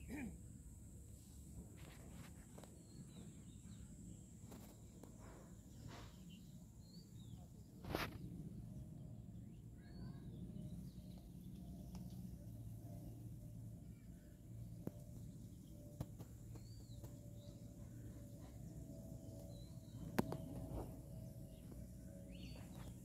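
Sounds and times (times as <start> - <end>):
low steady rumble: 0.0 - 23.0
faint bird chirps: 1.8 - 23.0.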